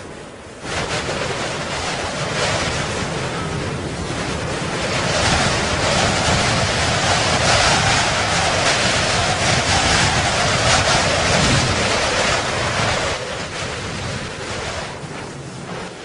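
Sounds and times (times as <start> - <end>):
wind rushing: 0.0 - 16.0.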